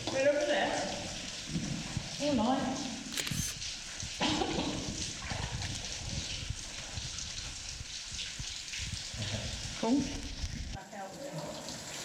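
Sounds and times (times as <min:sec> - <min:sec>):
running and trickling water: 0:00.0 - 0:03.0, 0:03.6 - 0:12.0.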